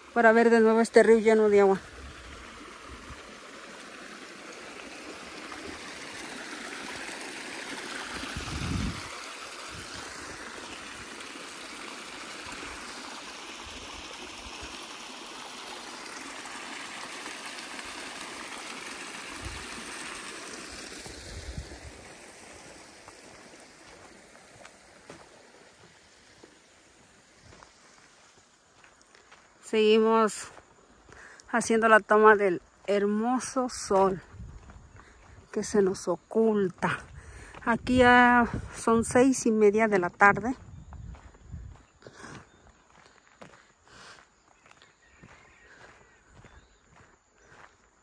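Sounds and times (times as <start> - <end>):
river water streaming over bed: 0.0 - 48.0.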